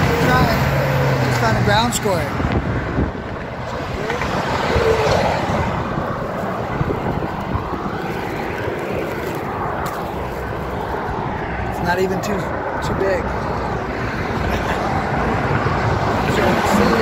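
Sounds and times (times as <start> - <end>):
highway traffic passing: 0.0 - 17.0.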